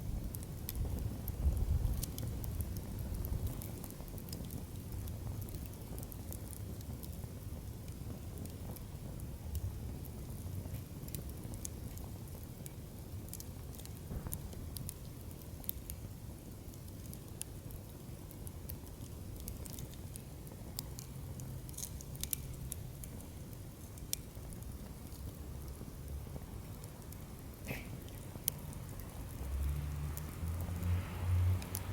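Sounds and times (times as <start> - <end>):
wood fire crackling and popping: 0.0 - 31.9
flames rushing: 0.1 - 31.9.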